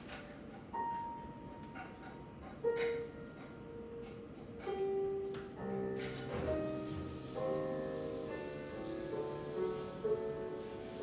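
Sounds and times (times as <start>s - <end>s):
piano accompaniment: 0.0s - 11.0s.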